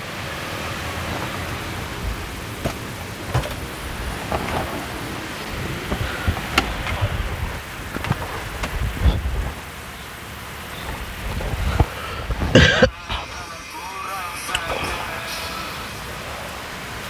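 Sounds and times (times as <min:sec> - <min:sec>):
rushing noise with low rumble: 0:00.0 - 0:17.0.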